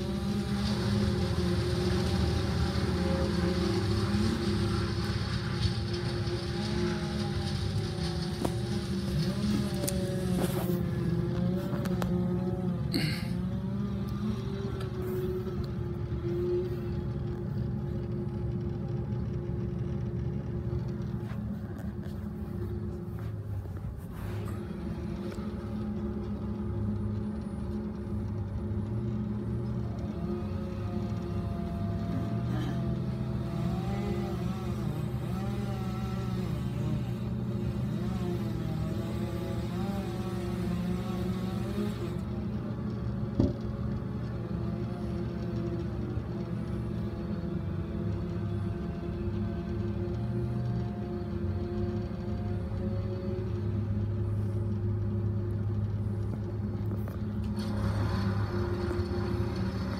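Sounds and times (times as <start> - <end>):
faint wavering whine: 0.0 - 59.9
truck engine rumbling: 0.0 - 59.9.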